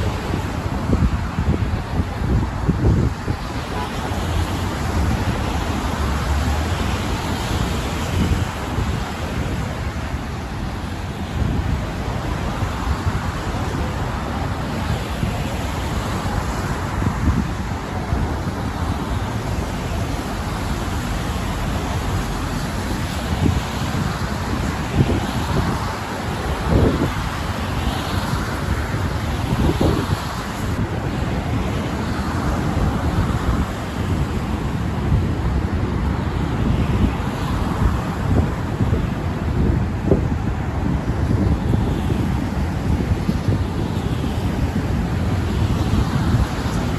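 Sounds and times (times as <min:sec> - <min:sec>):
road traffic hiss: 0:00.0 - 0:46.9
wind buffeting microphone: 0:00.0 - 0:46.9.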